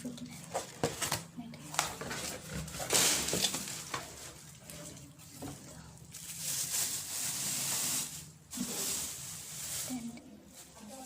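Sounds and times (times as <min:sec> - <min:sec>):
packaging rustling and crinkling: 0:00.4 - 0:04.8, 0:05.4 - 0:11.0.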